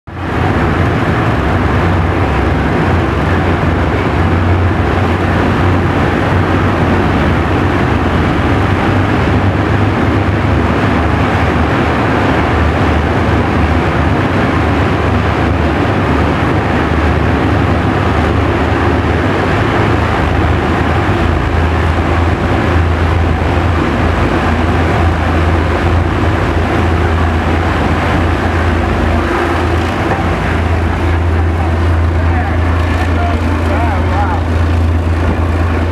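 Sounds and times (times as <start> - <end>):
locomotive engine drone: 0.1 - 35.9
rumble of moving train: 0.1 - 35.9.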